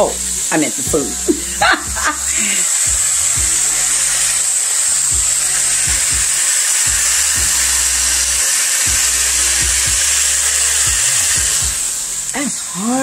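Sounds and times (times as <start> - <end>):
music with repeating bass line: 0.0 - 4.3, 5.1 - 12.4
vegetables sizzling in a skillet: 0.0 - 13.0.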